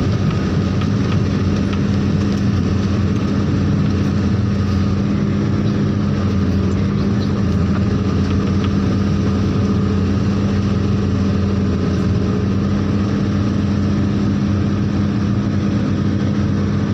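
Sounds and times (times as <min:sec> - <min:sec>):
heavy vehicle engine running: 0:00.0 - 0:16.9.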